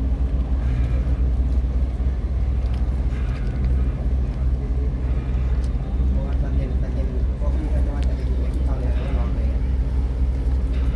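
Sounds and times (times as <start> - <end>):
boat diesel engine droning: 0.0 - 10.9.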